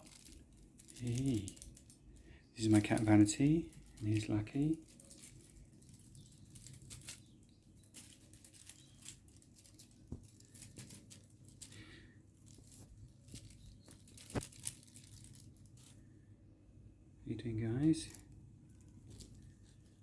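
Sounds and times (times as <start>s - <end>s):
cats playing rustling and tapping: 0.0s - 16.1s, 18.0s - 20.0s.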